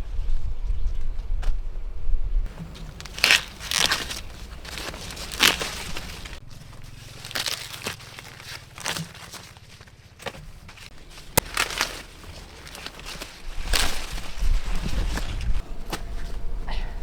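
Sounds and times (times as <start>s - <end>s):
dry corn leaves crackling: 2.5s - 16.3s.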